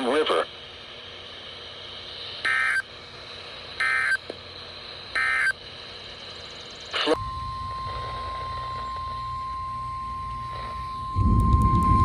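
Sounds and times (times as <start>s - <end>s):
warbling digital data bursts: 1.6s - 12.0s.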